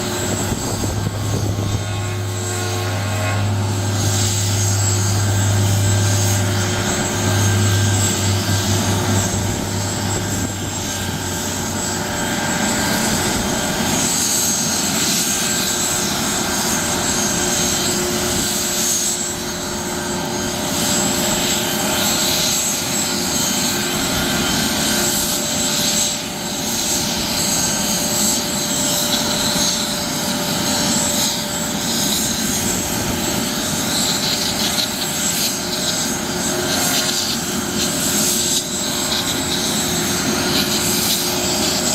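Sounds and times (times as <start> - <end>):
helicopter turbine whine: 0.0 - 41.9
pulsing rotor beat: 0.0 - 41.9.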